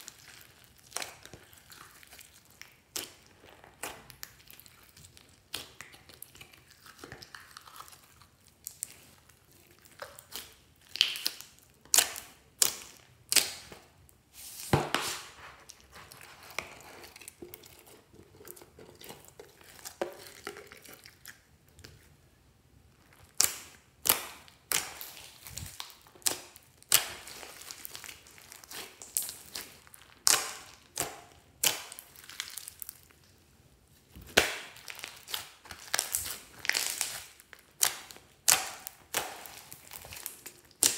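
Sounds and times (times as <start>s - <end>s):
slime crackling and squelching: 0.0s - 40.9s.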